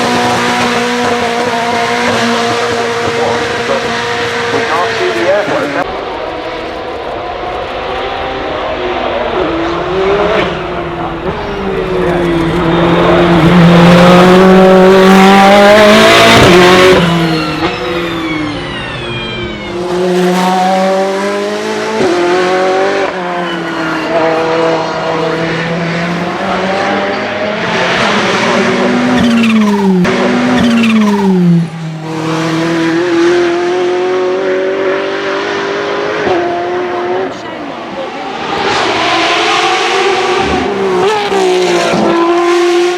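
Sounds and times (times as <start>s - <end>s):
car engine revving hard: 0.0s - 42.9s.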